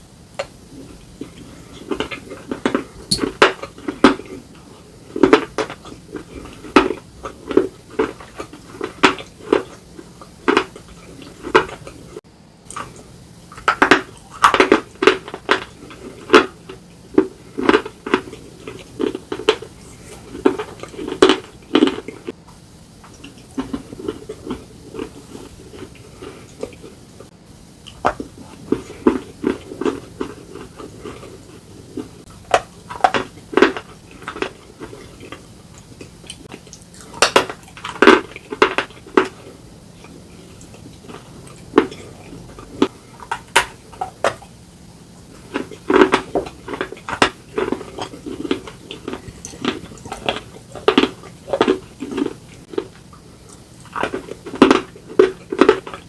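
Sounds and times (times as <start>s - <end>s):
slate crunching being chewed: 0.0s - 56.0s.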